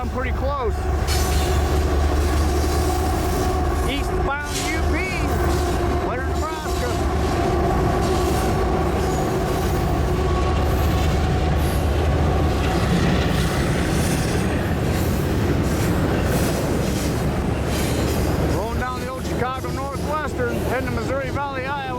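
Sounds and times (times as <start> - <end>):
train rumbling on tracks: 0.0 - 21.9.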